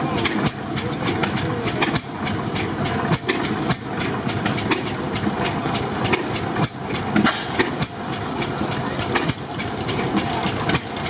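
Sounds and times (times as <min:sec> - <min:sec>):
stationary gas engines running: 0:00.0 - 0:11.0.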